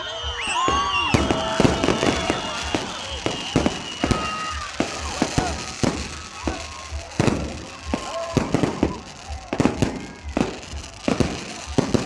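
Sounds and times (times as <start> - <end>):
fireworks banging and popping: 0.5 - 12.0.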